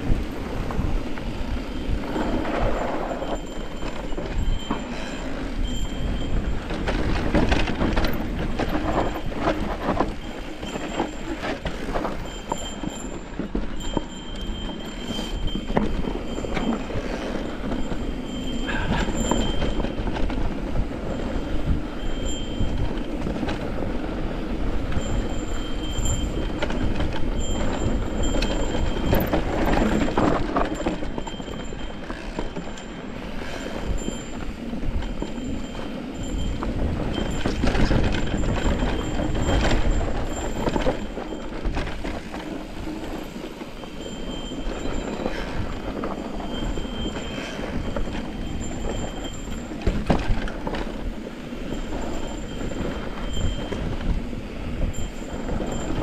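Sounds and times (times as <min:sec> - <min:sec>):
bike chain and frame rattling: 0:00.0 - 0:56.0.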